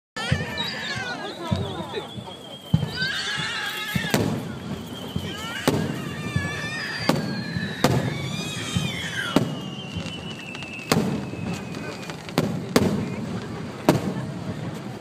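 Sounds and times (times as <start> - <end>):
falling firework whistle: 0.2 - 13.2
fireworks bursting with bangs: 0.2 - 15.0.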